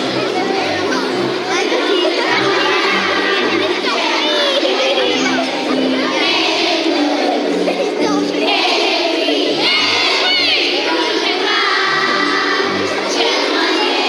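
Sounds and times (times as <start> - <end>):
backing music: 0.0 - 14.0
children singing together: 0.0 - 14.0.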